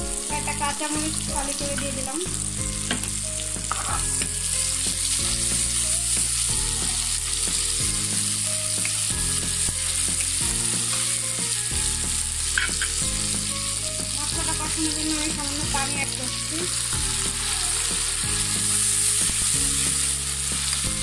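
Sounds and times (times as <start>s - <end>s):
food sizzling in hot oil: 0.0s - 21.0s
spatula stirring in pan: 2.6s - 21.0s.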